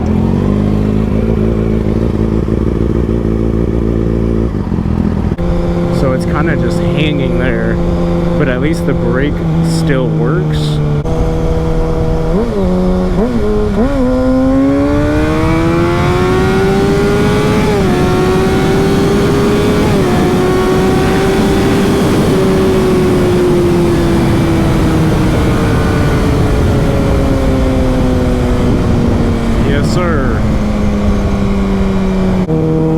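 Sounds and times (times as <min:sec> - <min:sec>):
motorcycle engine accelerating: 0:00.0 - 0:32.9
wind rush: 0:04.5 - 0:32.9.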